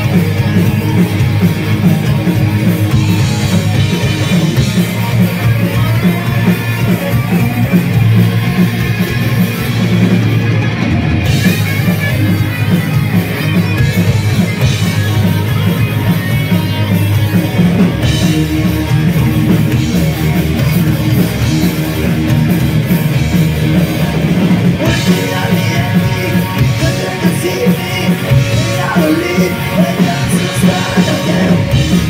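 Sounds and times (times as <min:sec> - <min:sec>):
drum kit: 0:00.0 - 0:32.0
electric guitars: 0:00.0 - 0:32.0.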